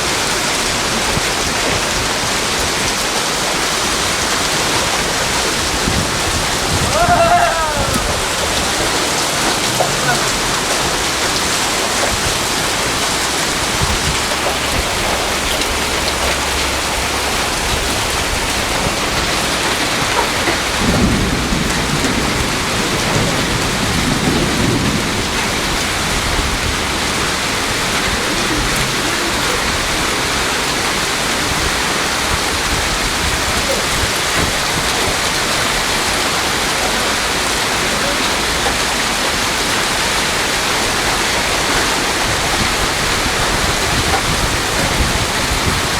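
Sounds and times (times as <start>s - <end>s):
heavy rain drumming: 0.0s - 45.9s.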